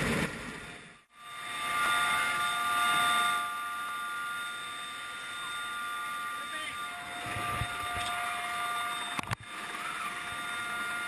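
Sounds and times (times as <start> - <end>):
helicopter running: 0.0 - 11.0
high whining tones: 0.0 - 11.0.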